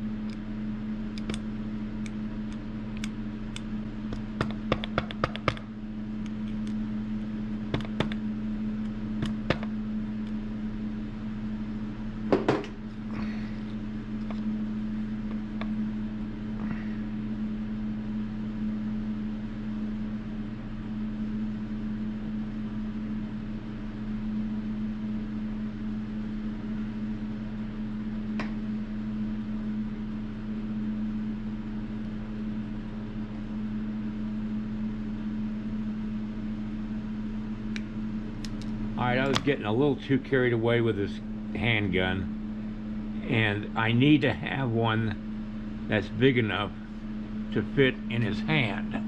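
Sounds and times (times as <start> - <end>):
steady machine hum: 0.0 - 49.0.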